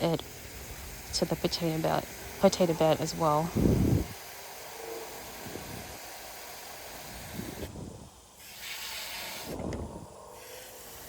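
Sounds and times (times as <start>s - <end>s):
garden hose spraying water: 0.0s - 11.0s.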